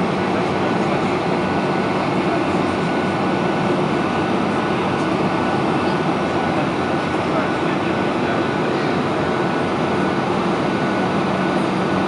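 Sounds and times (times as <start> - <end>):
jet engine noise: 0.0 - 12.0.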